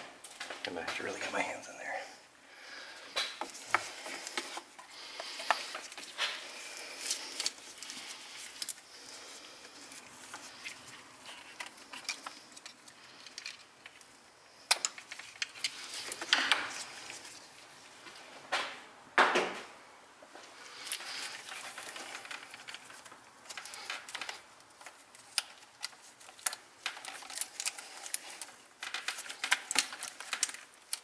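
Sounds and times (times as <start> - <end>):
gloved hands rustling wiring: 2.7 - 18.7, 20.4 - 31.0.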